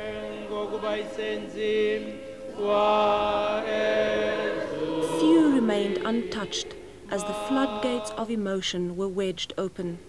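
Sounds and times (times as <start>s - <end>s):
voices holding long notes: 0.0s - 8.6s.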